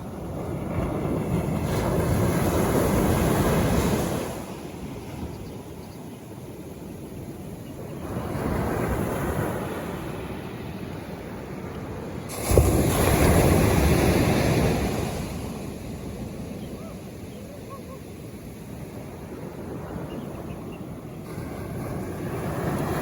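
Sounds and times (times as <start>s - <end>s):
ocean waves washing ashore: 0.0s - 23.0s.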